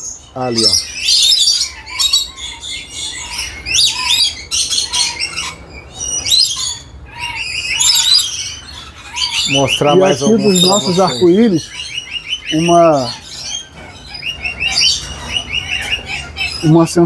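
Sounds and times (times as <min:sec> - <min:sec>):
lorikeets chattering and screeching: 0:00.0 - 0:17.0.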